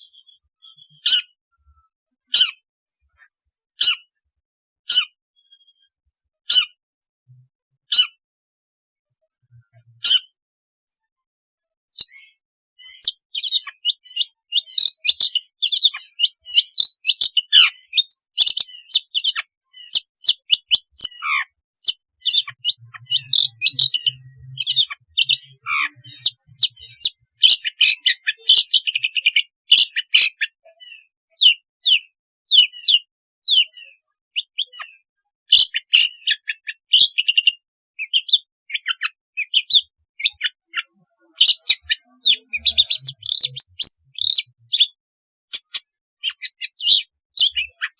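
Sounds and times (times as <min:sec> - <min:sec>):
bird singing: 0:00.0 - 0:02.6, 0:04.8 - 0:08.2, 0:11.9 - 0:47.9.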